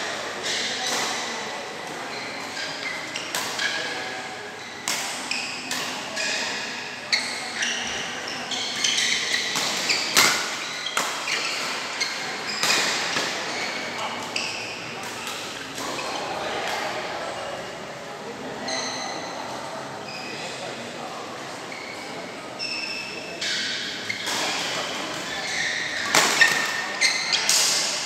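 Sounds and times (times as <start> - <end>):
court shoes squeaking: 0.4 - 17.4, 18.6 - 19.4, 20.0 - 20.8, 21.5 - 28.0.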